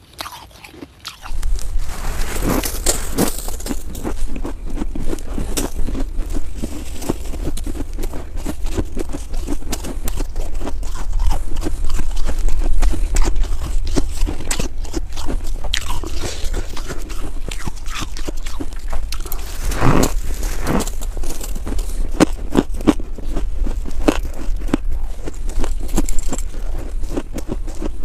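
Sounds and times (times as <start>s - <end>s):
snow being chewed: 0.0s - 28.0s
steady low rumble: 1.3s - 28.0s.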